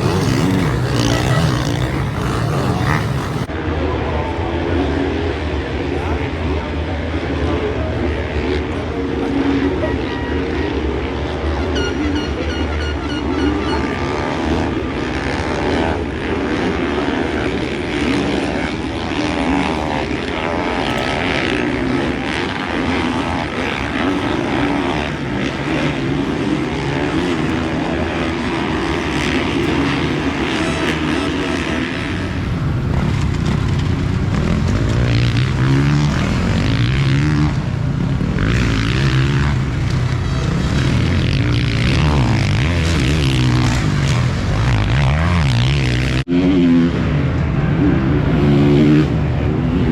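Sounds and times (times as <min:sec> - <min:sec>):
deeper engine drone: 0:00.0 - 0:49.9
motocross engines revving: 0:00.0 - 0:49.9.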